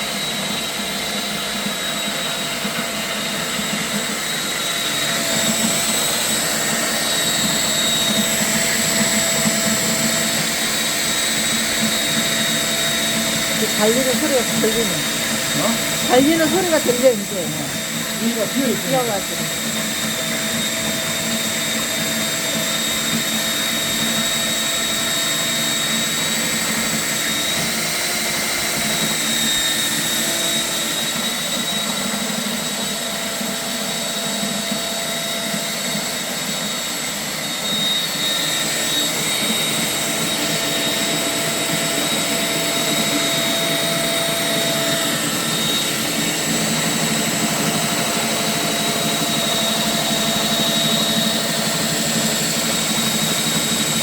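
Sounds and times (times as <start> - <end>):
drain cleaning machine whining: 0.0 - 54.0.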